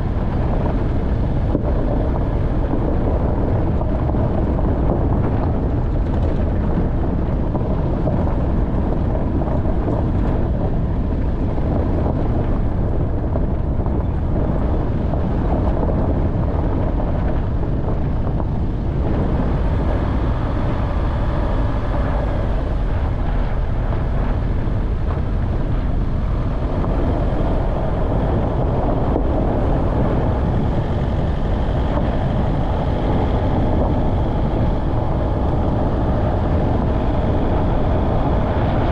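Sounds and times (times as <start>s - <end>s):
off-road vehicle engine driving: 0.0s - 38.9s.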